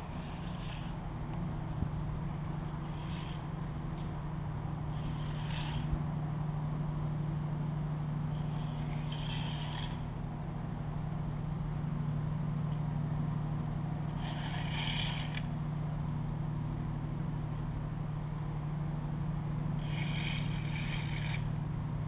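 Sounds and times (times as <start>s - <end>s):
ship engines low drone: 0.0s - 22.0s.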